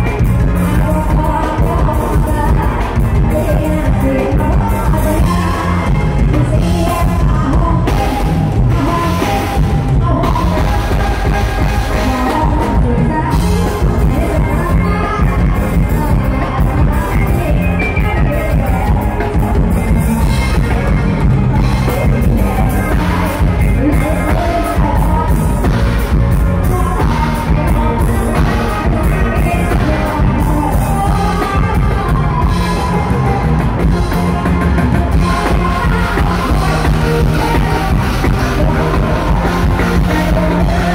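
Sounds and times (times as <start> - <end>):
person singing: 0.0 - 40.9.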